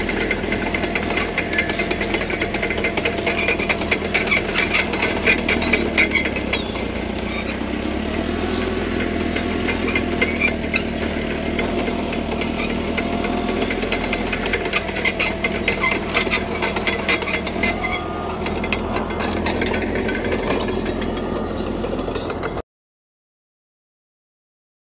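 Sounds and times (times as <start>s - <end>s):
bulldozer diesel engine running: 0.0s - 22.6s
gravel being pushed: 0.0s - 22.6s
steel tracks clattering: 0.0s - 22.6s.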